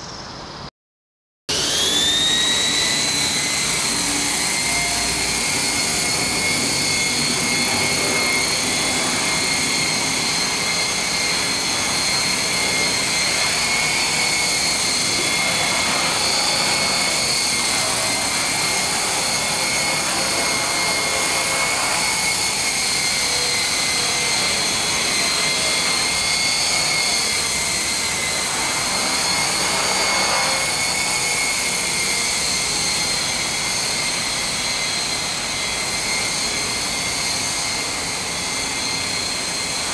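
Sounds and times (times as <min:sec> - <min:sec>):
rc helicopter motor whine: 0:01.5 - 0:39.9.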